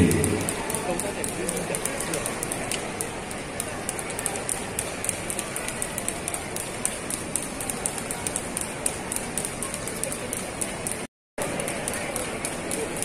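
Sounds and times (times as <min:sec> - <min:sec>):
crowd murmur in echoing hall: 0:00.0 - 0:13.0.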